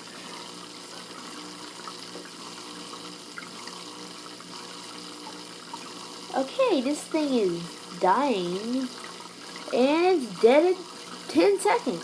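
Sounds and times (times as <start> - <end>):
fish tank water trickling: 0.1 - 12.0.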